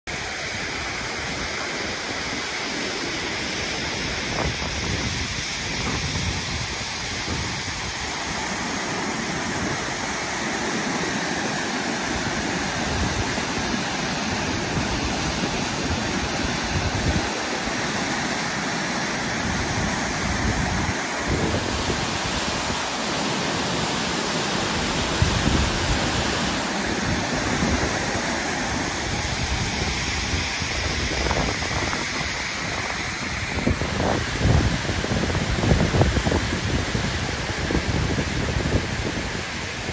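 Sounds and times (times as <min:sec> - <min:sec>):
waterfall rushing: 0:00.1 - 0:39.9
wind buffeting microphone: 0:03.5 - 0:18.1, 0:19.3 - 0:22.9, 0:24.6 - 0:39.9.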